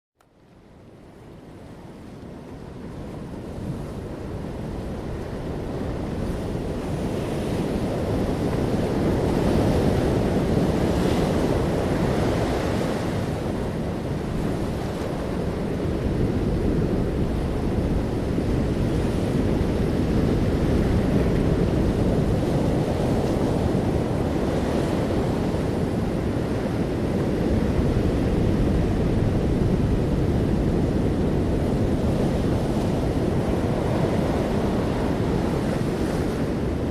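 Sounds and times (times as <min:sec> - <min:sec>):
wind blowing across microphone: 0:00.3 - 0:36.9
sea waves washing onto shore: 0:01.2 - 0:36.9.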